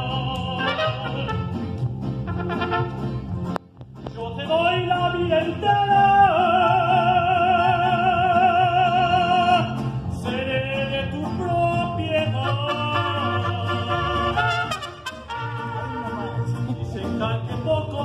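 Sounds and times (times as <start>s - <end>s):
man singing with vibrato: 0.0s - 1.7s, 4.2s - 18.0s
mariachi band playing: 0.0s - 18.0s.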